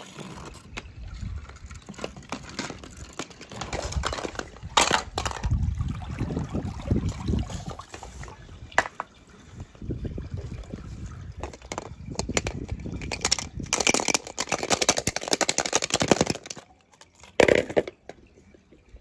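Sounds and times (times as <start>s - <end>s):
water trickling and splashing: 0.0s - 14.7s, 16.2s - 19.0s.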